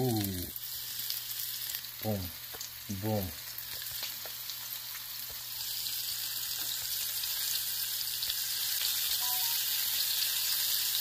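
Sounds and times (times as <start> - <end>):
prawns sizzling in hot oil: 0.0 - 11.0.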